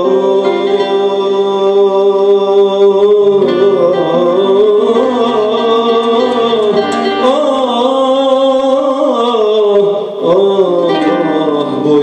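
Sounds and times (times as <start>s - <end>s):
man singing long note: 0.0s - 12.0s.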